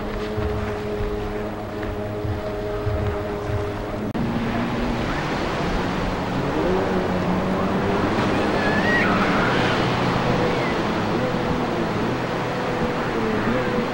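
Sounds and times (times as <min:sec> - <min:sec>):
breaking surf: 0:00.0 - 0:13.9
jet ski engine running: 0:00.0 - 0:13.9
wind: 0:00.0 - 0:13.9.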